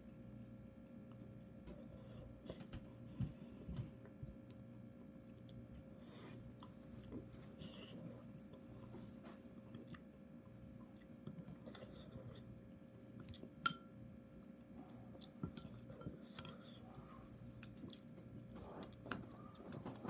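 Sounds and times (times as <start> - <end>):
faint steady hum: 0.0 - 20.0
person chewing softly: 0.0 - 20.0.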